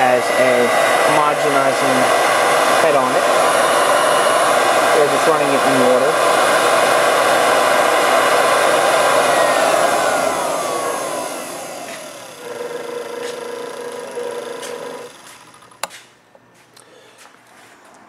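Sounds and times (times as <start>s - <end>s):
mixer motor whine: 0.0s - 16.0s.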